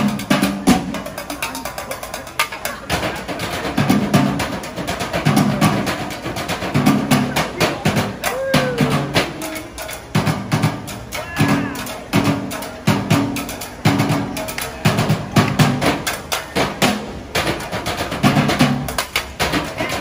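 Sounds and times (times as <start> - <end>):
drum troupe playing: 0.0 - 20.0.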